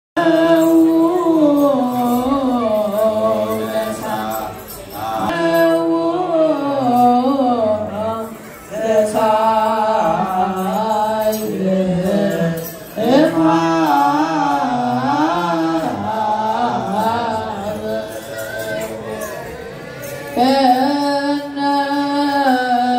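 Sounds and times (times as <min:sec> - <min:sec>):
deacons chanting hymn: 0:00.2 - 0:22.9.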